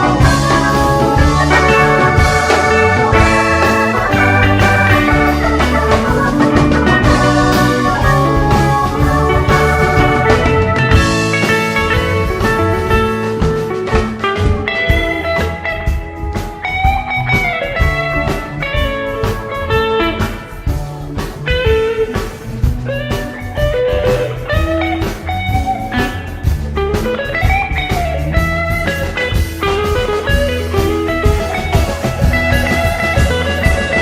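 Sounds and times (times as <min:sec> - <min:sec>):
bass guitar: 0:00.0 - 0:34.0
drum kit: 0:00.0 - 0:34.0
lead electric guitar bending notes: 0:00.0 - 0:34.0.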